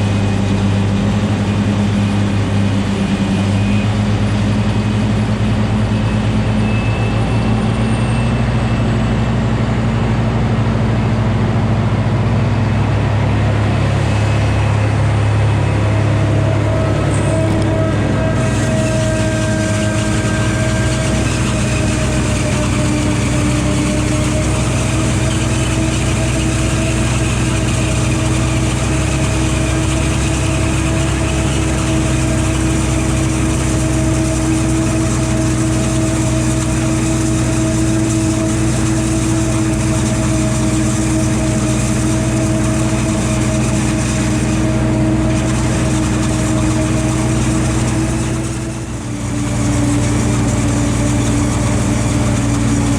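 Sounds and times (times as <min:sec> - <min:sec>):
constant whine: 0:00.0 - 0:52.9
tractor diesel engine running: 0:00.0 - 0:52.9.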